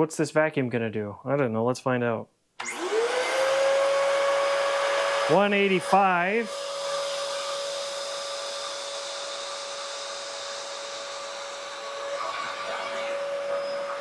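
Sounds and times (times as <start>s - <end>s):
vacuum cleaner running: 2.6s - 14.0s.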